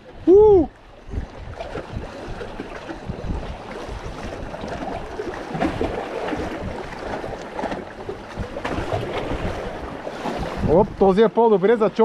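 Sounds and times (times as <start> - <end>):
wind buffeting microphone: 0.0 - 11.3
sea waves splashing against rocks: 1.1 - 11.3.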